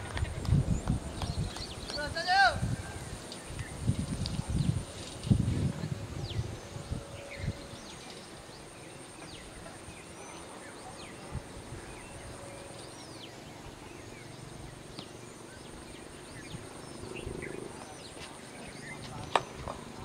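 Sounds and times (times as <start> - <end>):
birds chirping: 0.0 - 20.0
steady background hiss: 0.0 - 20.0.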